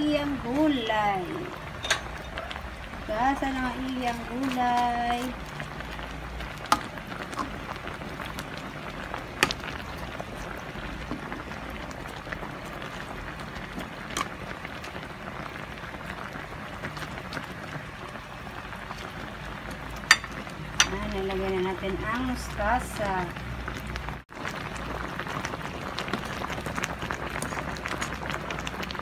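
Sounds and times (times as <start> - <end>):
broth bubbling in a pot: 0.0 - 29.0.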